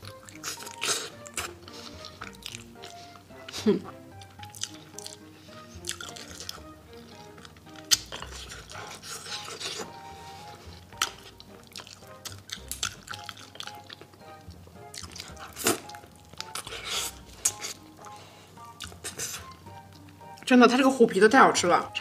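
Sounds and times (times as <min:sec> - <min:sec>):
wet chewing and mouth clicks: 0:00.0 - 0:20.5
soft background music: 0:00.0 - 0:22.0.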